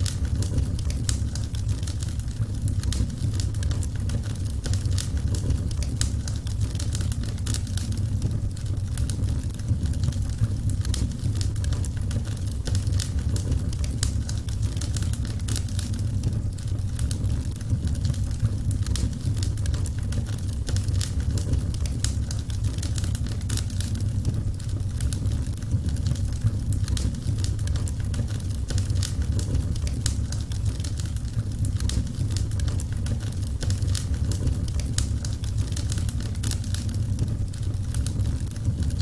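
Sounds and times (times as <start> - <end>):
fire low rumble: 0.0 - 39.0
wood fire crackling and popping: 0.0 - 39.0.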